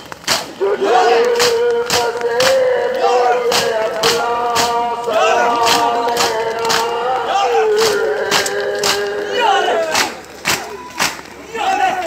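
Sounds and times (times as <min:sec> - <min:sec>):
men chanting in unison: 0:00.3 - 0:10.2
hands slapping chests: 0:01.2 - 0:11.4.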